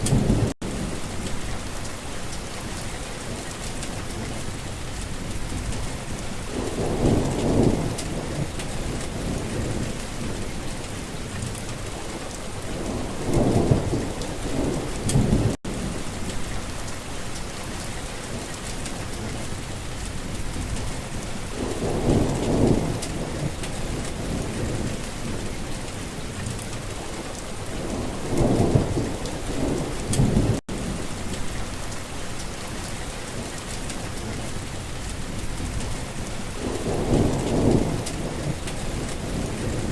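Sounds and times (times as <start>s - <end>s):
thunder rumbling: 0.0s - 1.9s, 4.0s - 32.2s, 32.9s - 39.9s.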